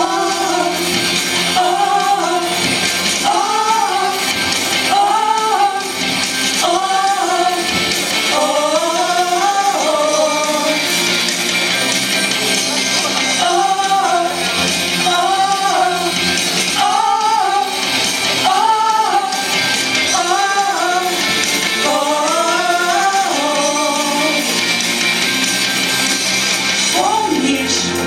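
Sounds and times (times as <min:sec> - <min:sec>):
song with instrumental accompaniment: 0:00.0 - 0:28.0.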